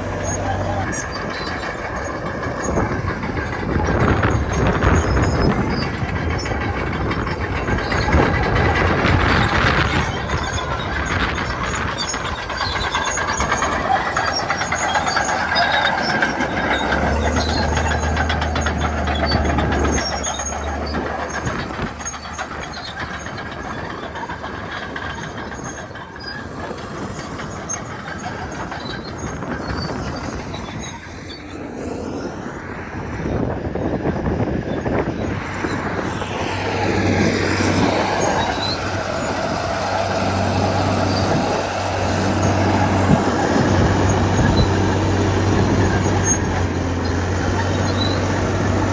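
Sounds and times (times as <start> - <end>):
bulldozer diesel engines: 0.0 - 48.9.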